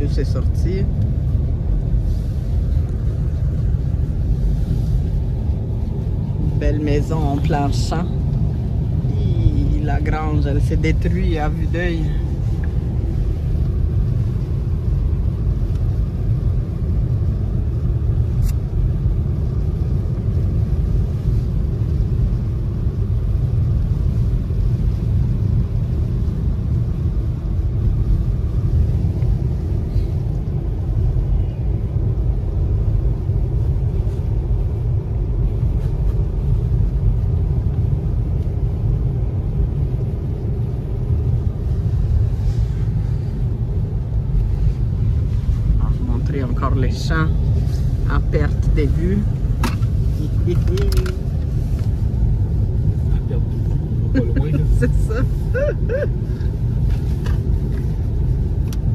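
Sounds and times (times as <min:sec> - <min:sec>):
car driving on snowy road: 0:00.0 - 0:58.9.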